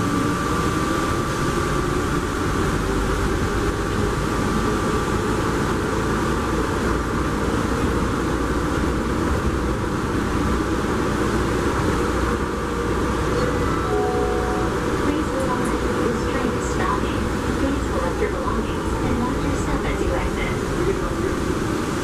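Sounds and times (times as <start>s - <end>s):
train rumbling through tunnel: 0.0s - 22.0s.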